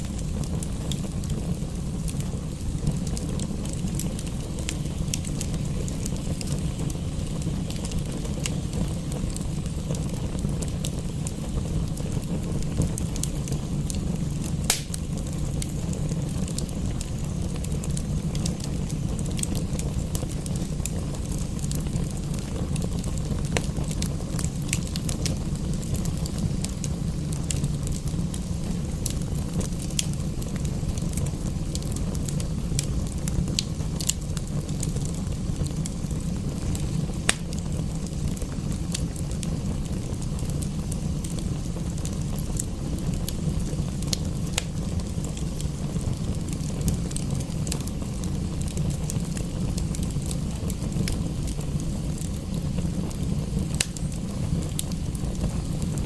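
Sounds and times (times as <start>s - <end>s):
rain hiss: 0.0s - 56.0s
wood fire crackling and popping: 0.0s - 56.0s.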